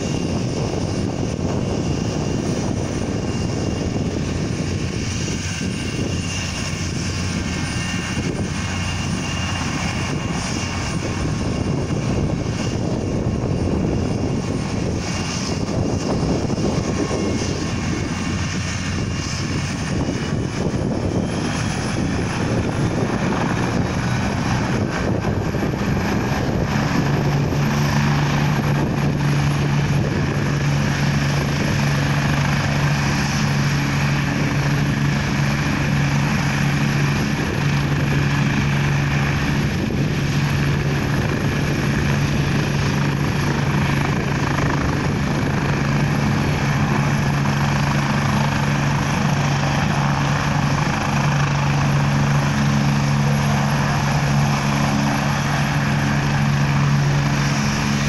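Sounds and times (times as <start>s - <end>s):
helicopter rotor rush: 0.0s - 58.0s
helicopter turbine hum: 0.0s - 58.0s.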